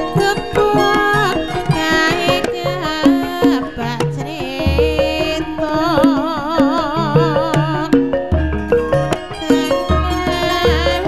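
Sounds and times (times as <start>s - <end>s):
hand drum strokes: 0.0s - 11.0s
melody of held notes: 0.0s - 11.0s
wavering melodic line: 0.0s - 11.0s.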